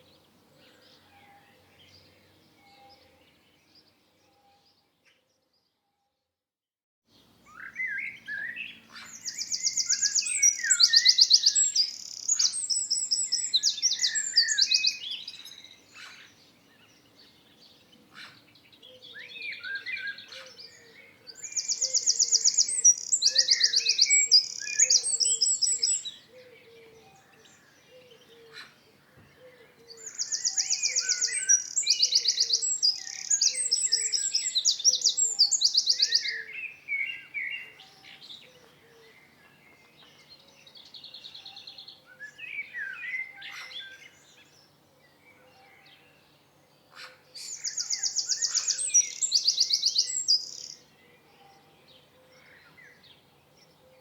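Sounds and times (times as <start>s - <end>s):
songbird trilling and warbling: 7.5s - 46.1s, 46.8s - 54.0s.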